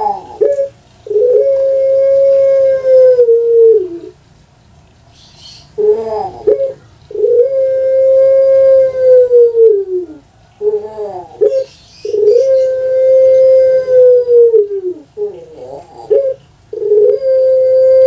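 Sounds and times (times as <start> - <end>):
dove cooing: 0.0 - 4.2, 5.2 - 18.0.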